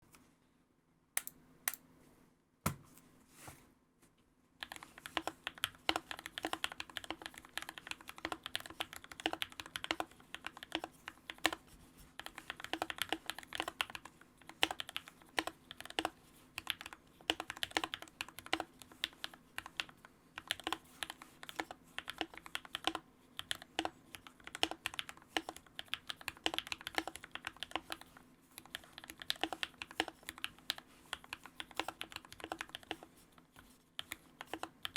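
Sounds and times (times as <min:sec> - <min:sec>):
typing on mechanical keyboard: 0:04.6 - 0:11.6, 0:12.2 - 0:33.1, 0:34.0 - 0:34.9.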